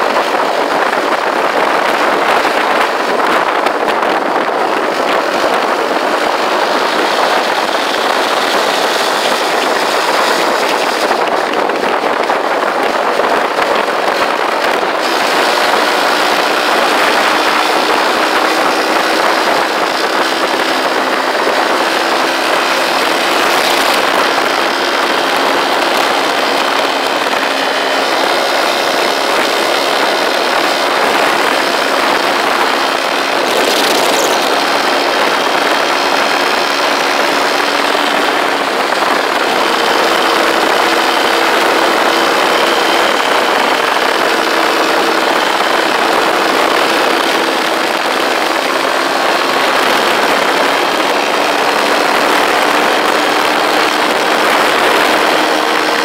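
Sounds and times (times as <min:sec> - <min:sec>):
motorcycle engine drone: 0:00.0 - 0:56.0
wind and road noise: 0:00.0 - 0:56.0.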